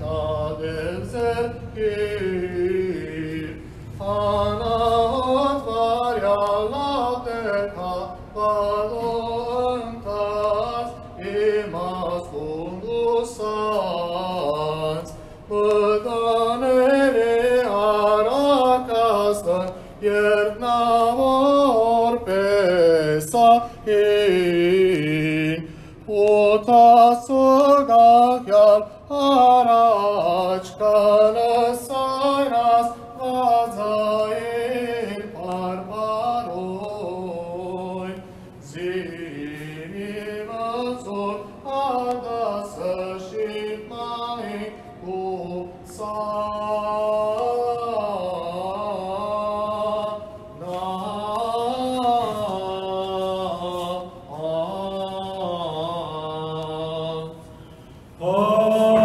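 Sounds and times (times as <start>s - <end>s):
man chanting a hymn: 0.0s - 59.0s.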